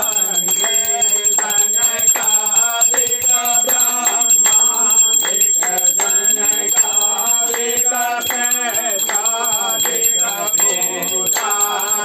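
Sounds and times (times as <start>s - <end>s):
bell ringing: 0.0s - 12.0s
devotional singing: 0.0s - 12.0s.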